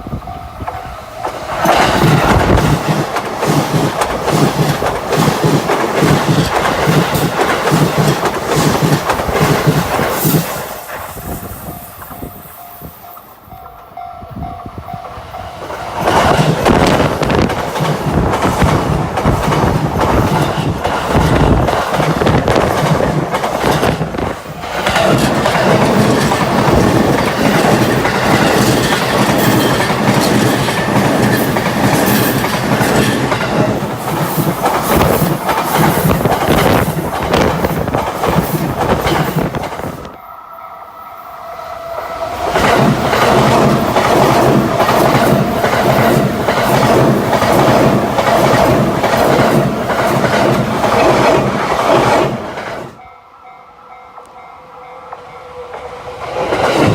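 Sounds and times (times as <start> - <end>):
train wheels clattering over rails: 0.6 - 12.5, 13.6 - 40.2, 42.0 - 53.0, 55.2 - 56.9.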